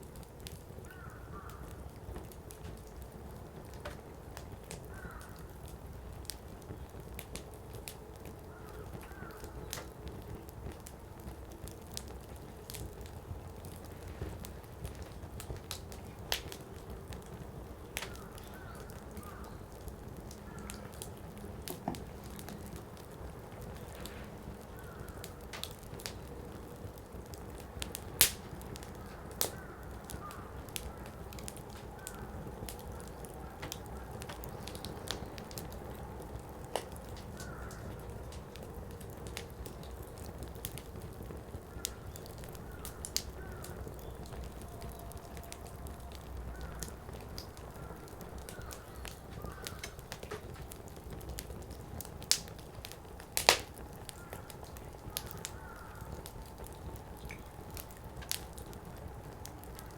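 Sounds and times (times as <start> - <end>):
low rush of flame: 0.0 - 59.9
wood crackling and popping: 0.0 - 59.9.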